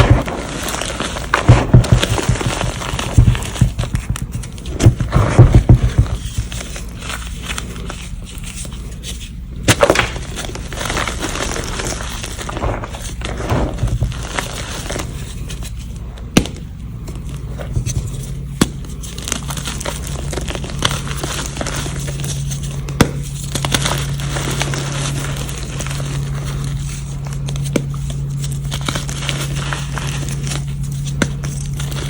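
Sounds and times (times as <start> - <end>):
chalk crunching and crackling: 0.0 - 16.0, 17.4 - 32.0.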